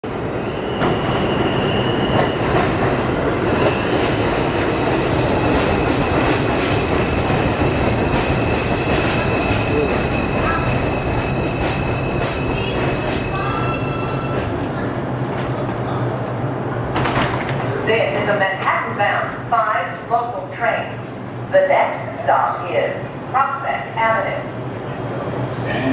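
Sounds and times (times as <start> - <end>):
subway train wheels rumbling: 0.0 - 25.9.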